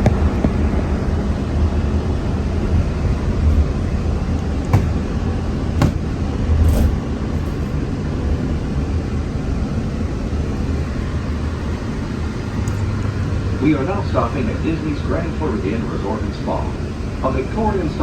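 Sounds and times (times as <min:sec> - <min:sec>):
monorail car rumble: 0:00.0 - 0:18.0.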